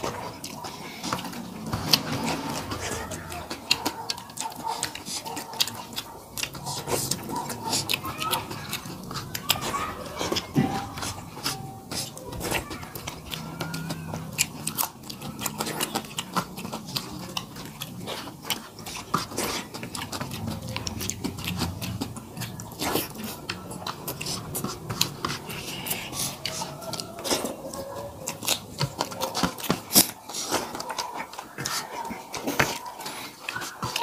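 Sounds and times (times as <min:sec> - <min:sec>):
mouth clicks and smacks: 0:00.0 - 0:34.0
people chewing food: 0:00.0 - 0:34.0.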